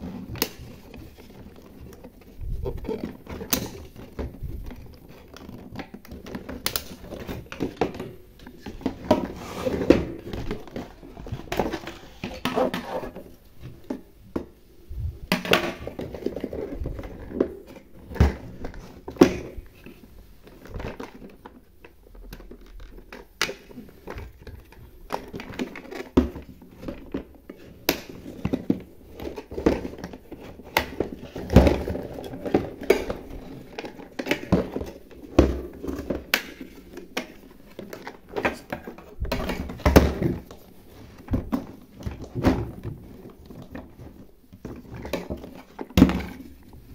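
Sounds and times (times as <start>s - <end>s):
plastic parts clicking and knocking: 0.1s - 14.6s, 15.3s - 46.9s.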